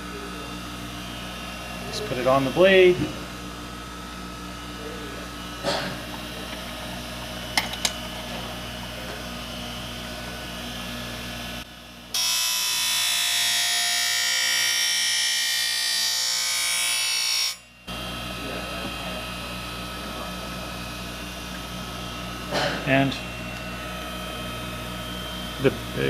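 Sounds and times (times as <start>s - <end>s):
sharpening machine humming: 0.0s - 26.0s.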